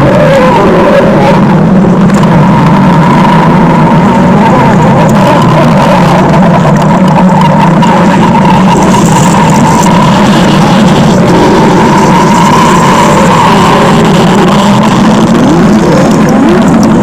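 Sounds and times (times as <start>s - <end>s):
buzzing stomach growl: 0.0s - 17.0s.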